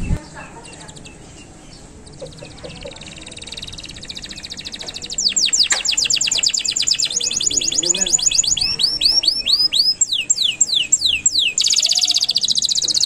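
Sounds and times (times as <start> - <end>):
canary singing trills: 0.0 - 13.0.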